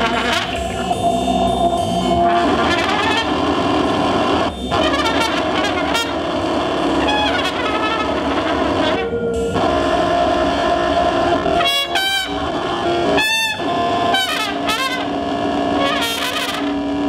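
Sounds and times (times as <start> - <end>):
electronic noise music: 0.0 - 17.0
trumpet playing: 0.0 - 17.0.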